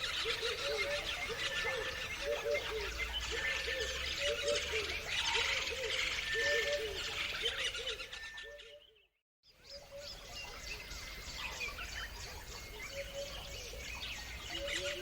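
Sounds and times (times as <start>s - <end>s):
low bird calls: 0.0s - 15.0s
songbirds chirping: 0.0s - 15.0s.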